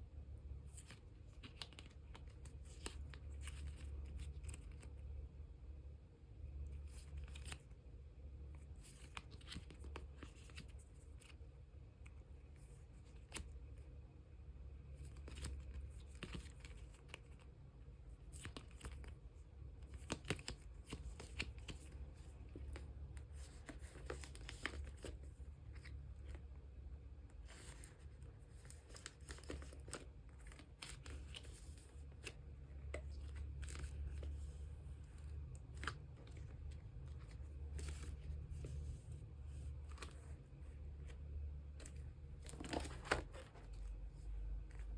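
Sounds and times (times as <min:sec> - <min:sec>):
plastic sleeves rustling: 0:00.6 - 0:05.2, 0:08.5 - 0:14.0, 0:14.7 - 0:44.9.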